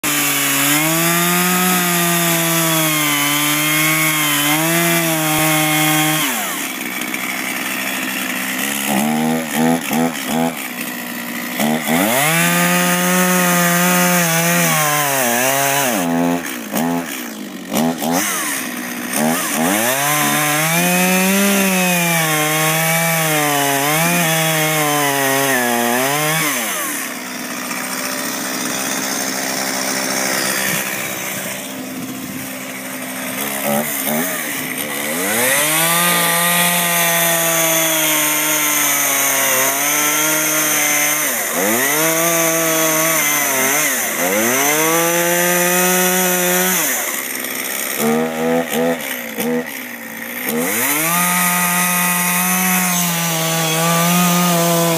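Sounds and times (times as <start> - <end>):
chainsaw cutting wood: 0.0 - 54.9
chainsaw engine revving: 0.0 - 54.9.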